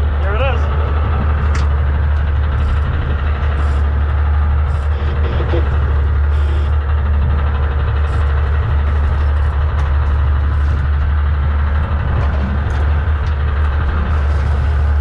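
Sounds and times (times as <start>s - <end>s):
boat engine drone: 0.0s - 15.0s
water noise: 0.0s - 15.0s
wind: 0.0s - 15.0s.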